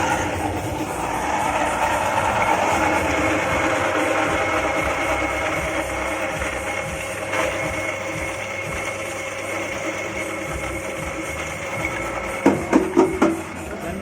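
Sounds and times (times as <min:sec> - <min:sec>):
machine motor humming: 0:00.0 - 0:14.0.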